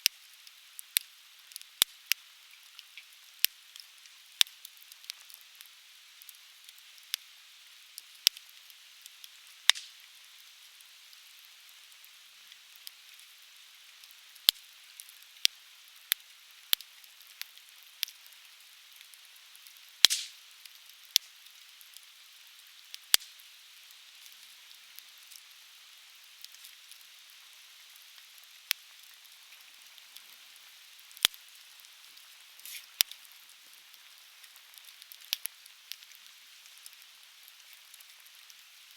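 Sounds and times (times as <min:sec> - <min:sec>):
wood fire crackling and popping: 0:00.0 - 0:07.2, 0:08.0 - 0:13.4, 0:14.0 - 0:38.9.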